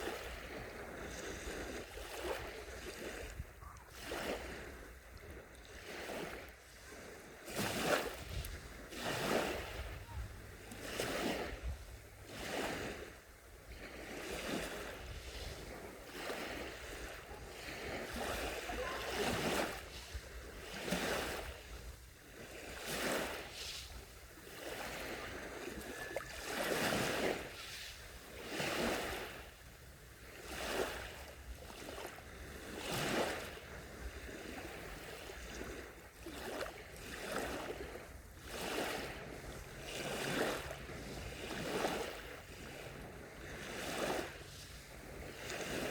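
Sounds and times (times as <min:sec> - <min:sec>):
small waves breaking on beach: 0:00.0 - 0:45.9.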